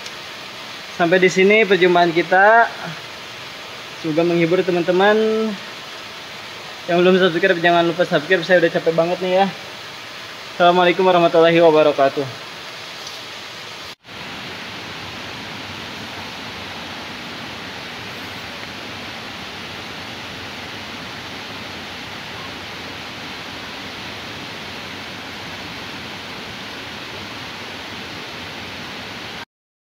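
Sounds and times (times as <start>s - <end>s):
stream water rushing: 0.0s - 29.4s.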